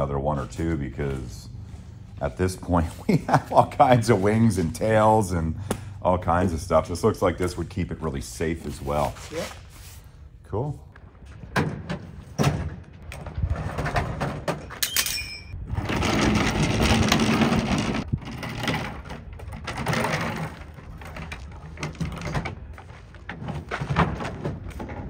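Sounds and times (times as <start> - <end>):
wheels rumbling on pavement: 0.0 - 9.1, 11.0 - 14.8, 15.6 - 25.0.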